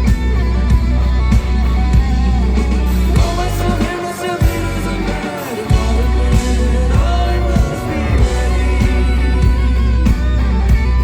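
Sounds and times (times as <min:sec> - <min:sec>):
bass: 0:00.0 - 0:11.0
guitar chords: 0:00.0 - 0:11.0
drum beat: 0:00.1 - 0:11.0.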